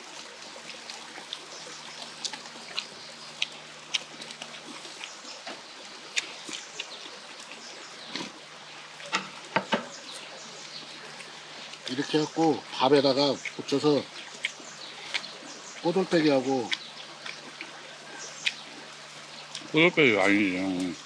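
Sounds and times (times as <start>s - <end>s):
people chewing: 0.6s - 8.4s, 9.0s - 21.0s.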